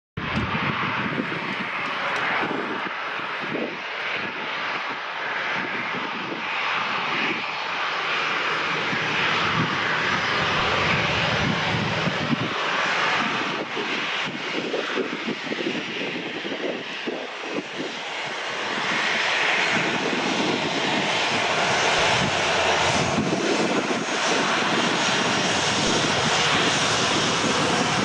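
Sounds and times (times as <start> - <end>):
jet engines whining: 0.2 - 28.0.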